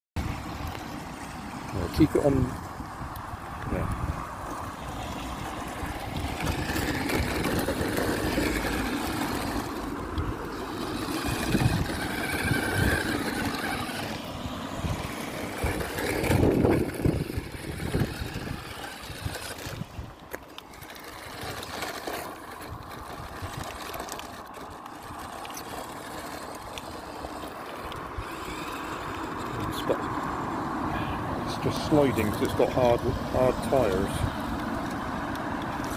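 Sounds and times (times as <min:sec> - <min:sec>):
wheels driving over gravel: 0:00.2 - 0:35.9
toy truck electric motor whining: 0:00.6 - 0:35.9.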